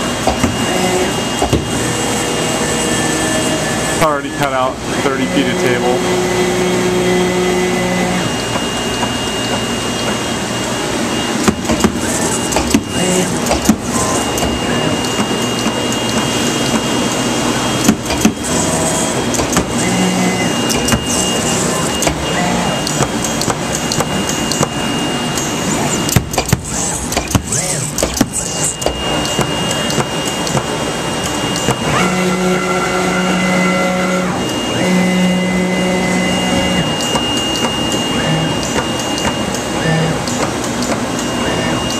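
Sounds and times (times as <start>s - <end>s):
servo motors whining: 0.1s - 40.4s, 41.2s - 41.9s.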